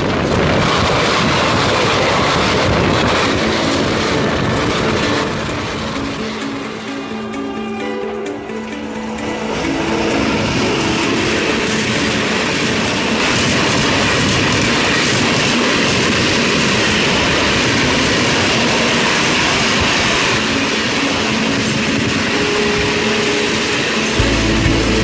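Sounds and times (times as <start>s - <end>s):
train wheels rushing on rail: 0.0s - 25.0s.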